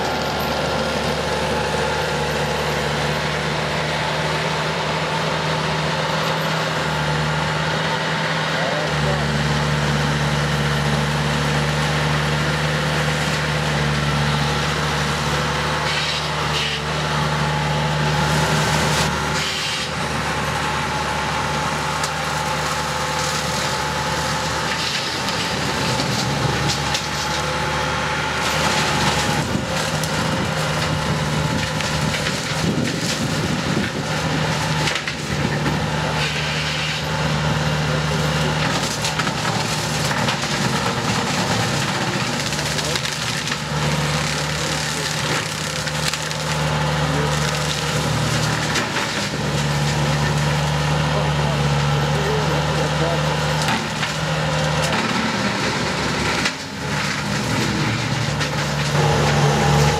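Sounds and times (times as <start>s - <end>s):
brush cutter shredding wood: 0.0s - 59.9s
diesel engine under load: 0.0s - 59.9s.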